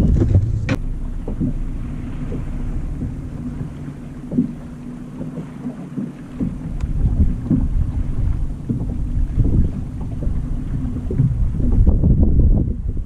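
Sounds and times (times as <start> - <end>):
low steady hum: 0.0 - 13.0
waves slapping boat hull: 0.0 - 13.0
wind buffeting microphone: 0.0 - 13.0.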